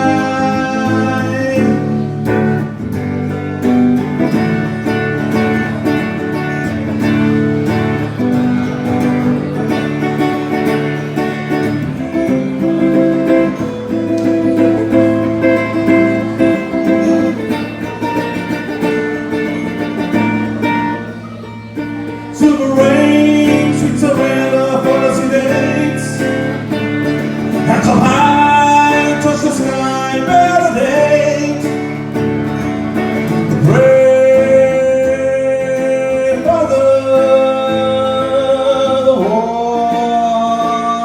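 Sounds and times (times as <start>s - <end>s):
live band lead guitar: 0.0s - 41.0s
strummed acoustic guitar: 0.0s - 41.0s.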